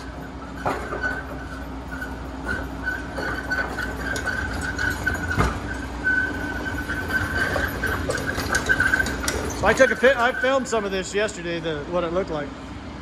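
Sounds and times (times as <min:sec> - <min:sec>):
mechanical hum with high whine: 0:00.0 - 0:13.0.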